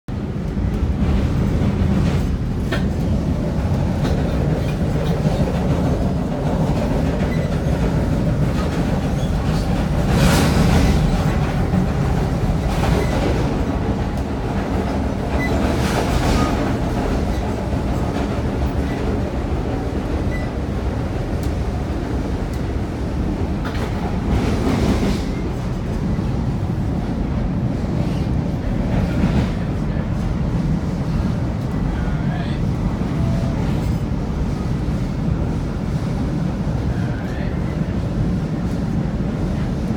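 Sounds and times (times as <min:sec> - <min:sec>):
train wheels rumbling on rails: 0:00.1 - 0:39.9.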